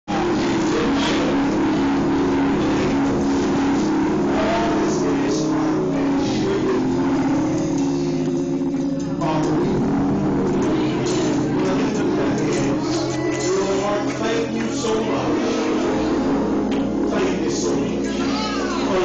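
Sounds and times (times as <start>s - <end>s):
organ playing chords: 0.0s - 19.0s.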